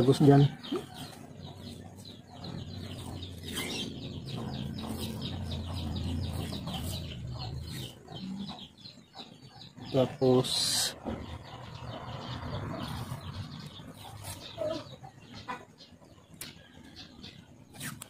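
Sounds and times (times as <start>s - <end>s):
birds chirping rapidly: 0.0s - 18.0s.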